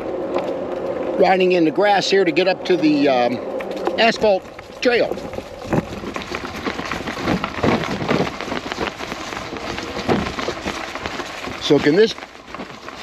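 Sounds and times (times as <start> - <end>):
tyres rolling through dry grass: 0.0 - 13.0.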